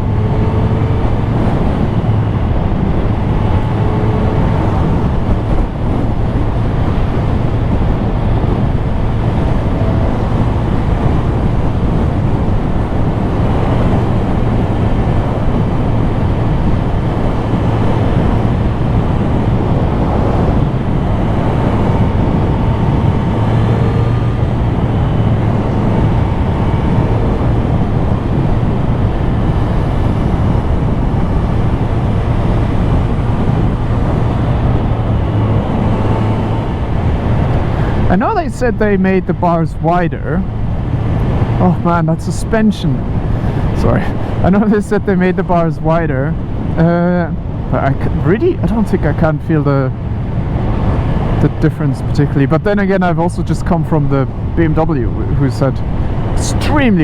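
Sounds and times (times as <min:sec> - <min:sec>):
motorcycle engine humming: 0:00.0 - 0:57.0
wind and road noise: 0:00.0 - 0:57.0.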